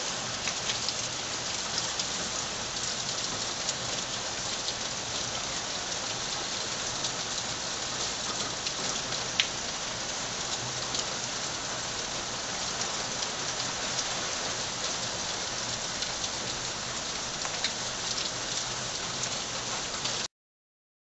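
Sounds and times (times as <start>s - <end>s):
heavy rain falling: 0.0s - 20.3s.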